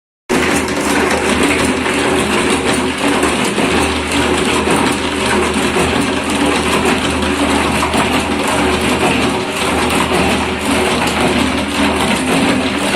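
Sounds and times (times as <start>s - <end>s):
concrete mixer motor hum: 0.3s - 12.9s
rattle of turning drum: 0.3s - 12.9s.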